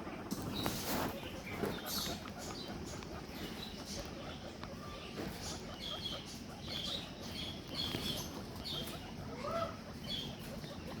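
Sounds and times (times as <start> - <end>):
guinea pigs squeaking: 0.0 - 11.0.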